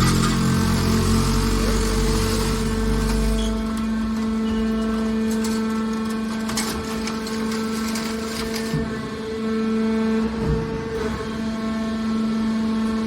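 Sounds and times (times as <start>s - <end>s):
hydraulic baler humming: 0.0s - 13.0s.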